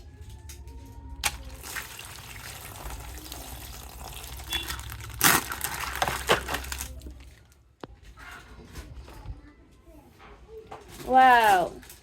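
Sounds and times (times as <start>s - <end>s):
crinkling rustling handling noise: 0.2s - 9.4s, 10.2s - 12.0s.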